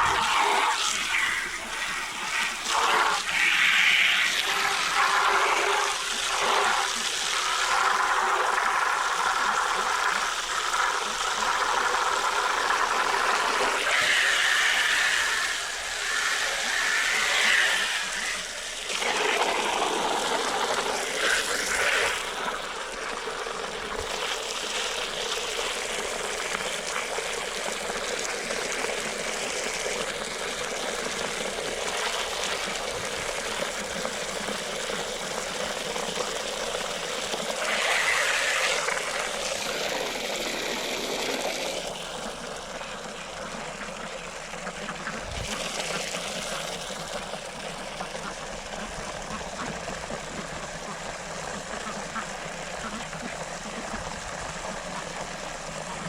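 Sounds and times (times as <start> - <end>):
water running: 0.0 - 56.0.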